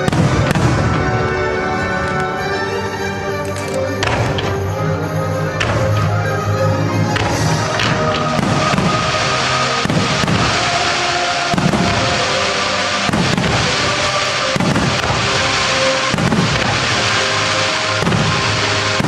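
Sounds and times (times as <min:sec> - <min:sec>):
music: 0:00.0 - 0:19.0
firework shells bursting: 0:03.4 - 0:19.0.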